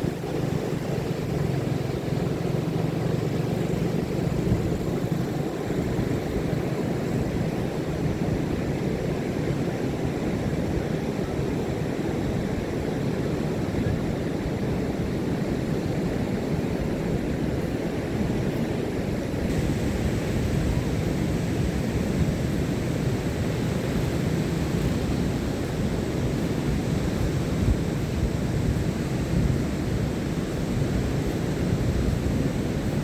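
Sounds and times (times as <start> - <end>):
ocean waves rushing: 0.0 - 33.0.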